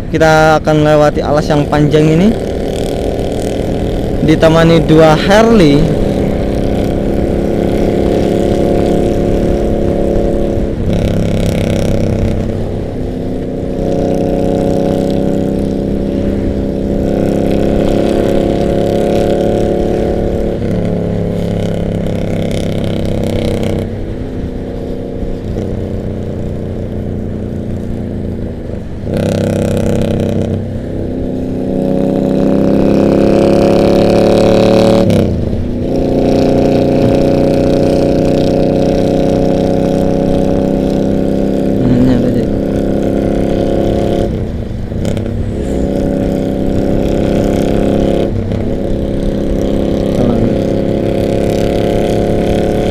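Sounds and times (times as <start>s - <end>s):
motorcycle engines accelerating: 0.0s - 52.9s.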